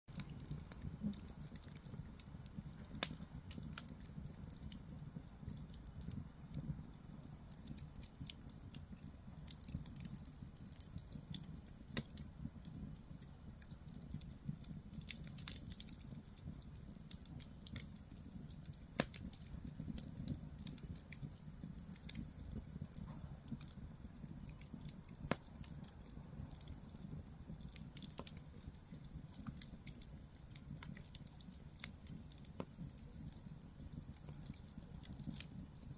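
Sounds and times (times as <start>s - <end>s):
fire rumbling: 0.1s - 35.9s
logs crackling and popping: 0.1s - 35.9s.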